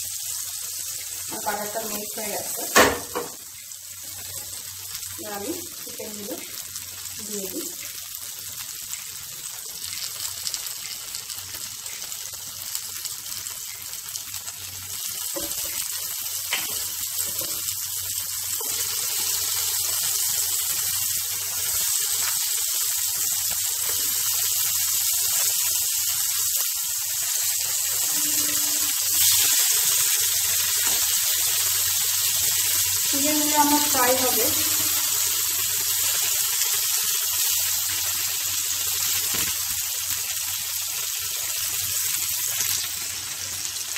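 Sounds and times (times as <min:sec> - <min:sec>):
chicken sizzling in frying pan: 0:00.0 - 0:43.9.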